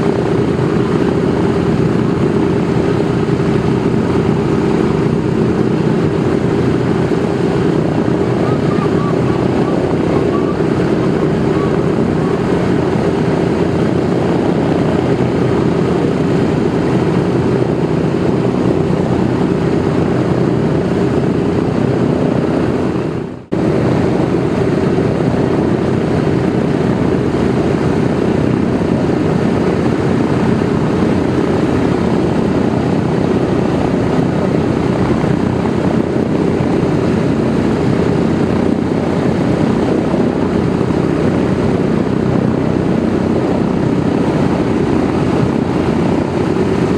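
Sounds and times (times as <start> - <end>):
propeller engines droning: 0.0 - 46.9.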